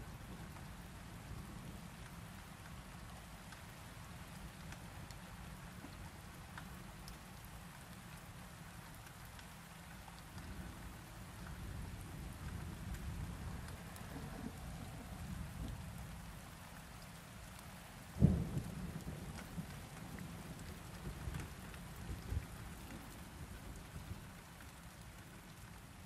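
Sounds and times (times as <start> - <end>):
steady rainfall hiss: 0.0 - 26.0.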